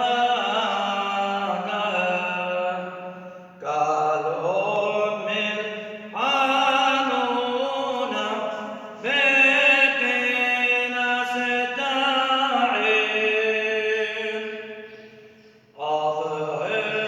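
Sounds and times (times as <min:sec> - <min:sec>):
man chanting a prayer: 0:00.0 - 0:17.0.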